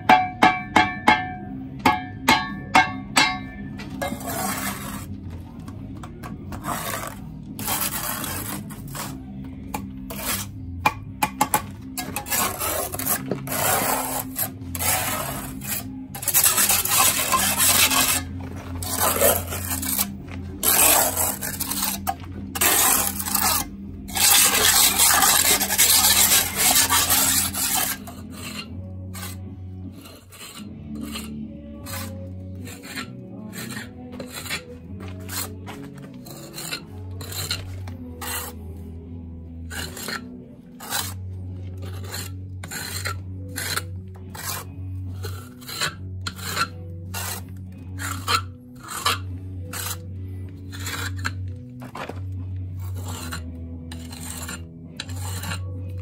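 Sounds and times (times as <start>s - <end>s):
trowel scraping mortar: 3.8s - 56.0s.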